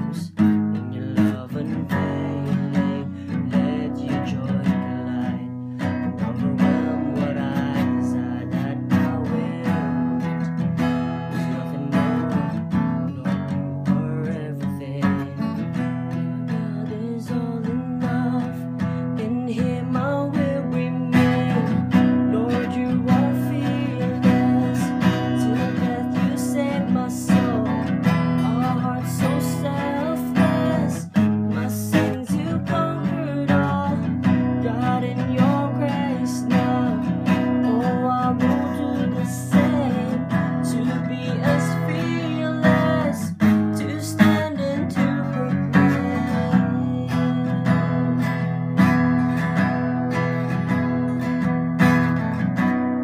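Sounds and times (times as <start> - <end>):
man singing: 0.0 - 52.2
acoustic guitar strumming: 0.0 - 53.0.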